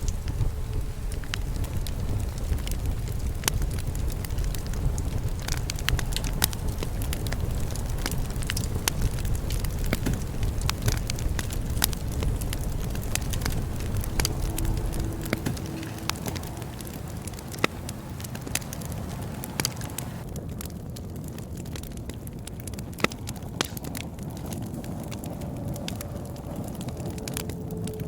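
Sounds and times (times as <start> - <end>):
bonfire crackles and pops: 0.0 - 28.0
low rumble of flame: 0.0 - 28.0.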